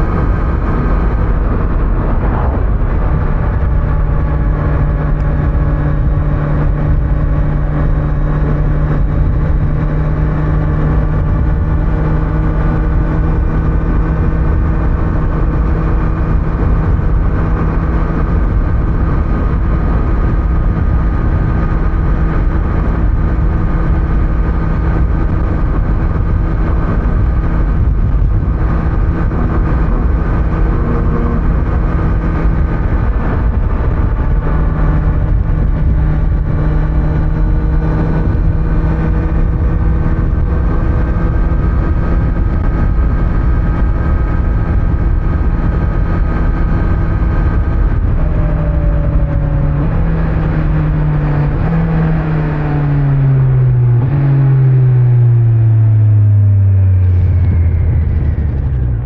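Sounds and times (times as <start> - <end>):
motorcycle engine cruising: 0.0 - 59.0
road noise: 0.0 - 59.0
wind noise: 0.0 - 59.0.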